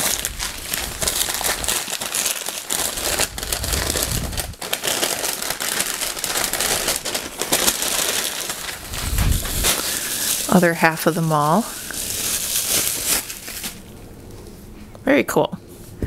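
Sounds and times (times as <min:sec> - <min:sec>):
packing paper rustling: 0:00.0 - 0:14.4.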